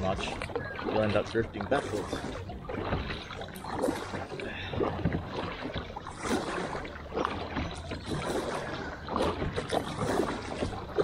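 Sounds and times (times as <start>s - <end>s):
kayak paddle splashing: 0.0s - 11.0s.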